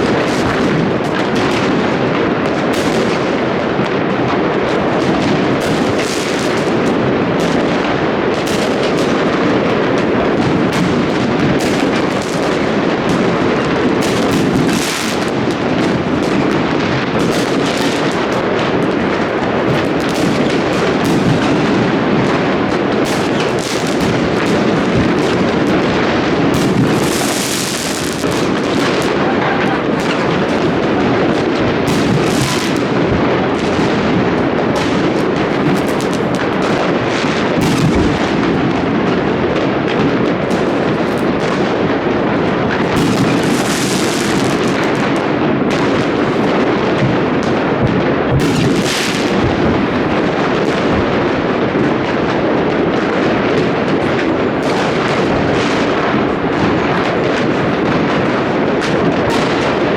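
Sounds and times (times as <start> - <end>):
fireworks bangs and booms: 0.0 - 59.9
fireworks crackling: 0.0 - 59.9.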